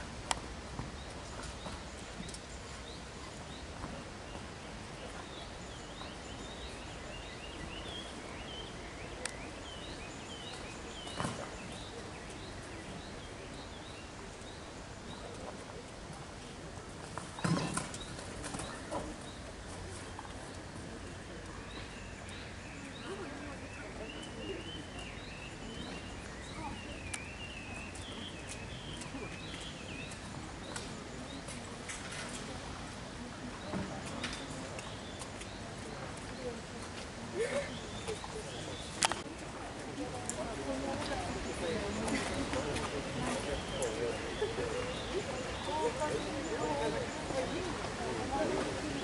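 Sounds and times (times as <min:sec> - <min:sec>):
low background noise: 0:00.0 - 0:49.0
small birds chirping: 0:00.3 - 0:49.0.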